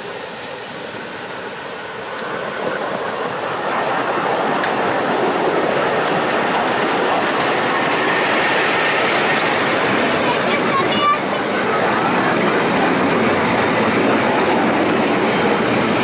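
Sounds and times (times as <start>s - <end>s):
steam train wheels rumbling on rail: 0.0s - 16.0s.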